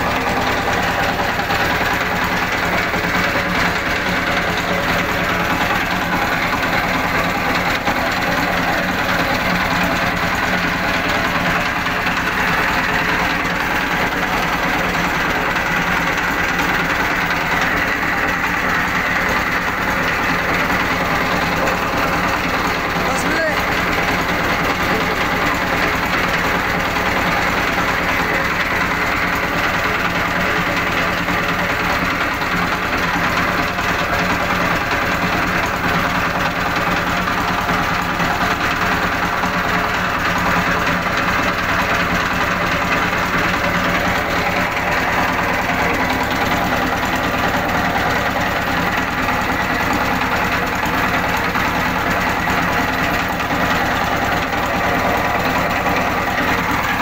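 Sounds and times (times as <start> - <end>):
diesel engine knocking steadily: 0.0 - 57.0.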